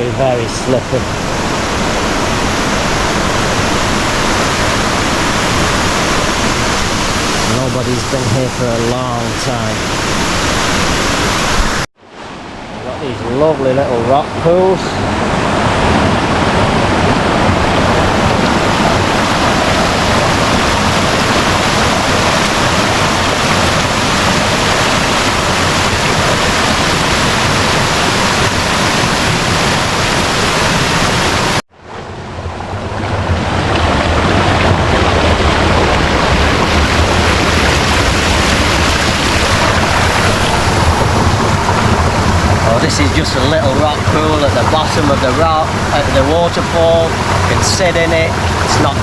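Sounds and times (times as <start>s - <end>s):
waterfall rushing: 0.0s - 31.6s, 32.3s - 49.0s.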